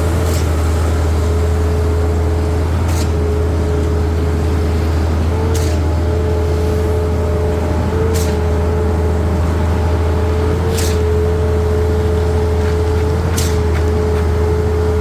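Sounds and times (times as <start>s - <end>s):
diesel engine running: 0.0s - 15.0s
pump hiss: 0.0s - 15.0s.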